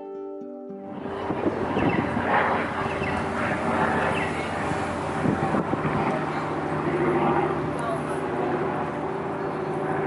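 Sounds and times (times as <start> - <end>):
engine drone: 0.8 - 10.0.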